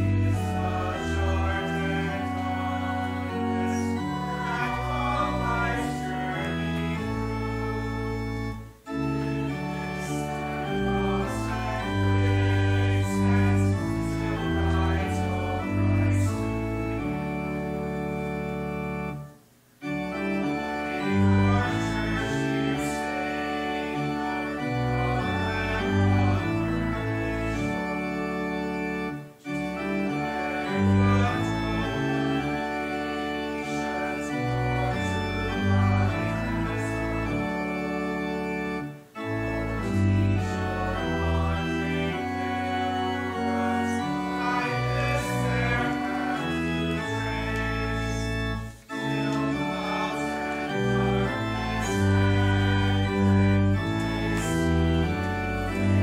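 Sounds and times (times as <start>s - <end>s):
church organ playing a hymn: 0.0s - 56.0s.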